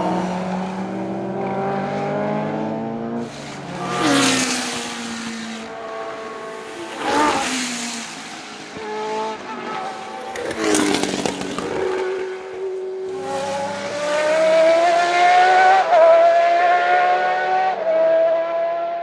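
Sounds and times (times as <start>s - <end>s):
racing car passing: 0.0s - 18.9s
racing car engine accelerating: 0.0s - 19.0s.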